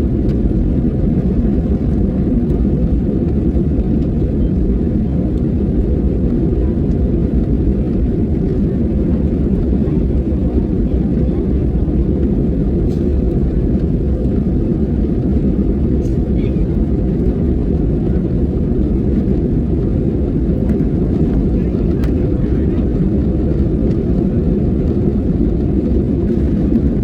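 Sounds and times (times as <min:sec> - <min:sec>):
airliner engines roaring in cabin: 0:00.0 - 0:27.0.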